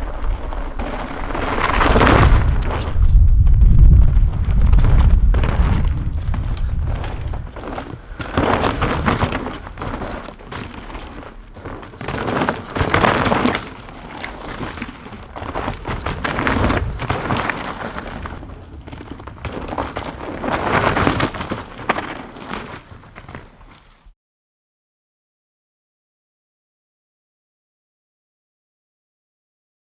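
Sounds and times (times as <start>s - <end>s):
bike rattling: 0.0s - 24.1s
bike tyres crunching on dirt: 0.0s - 24.1s.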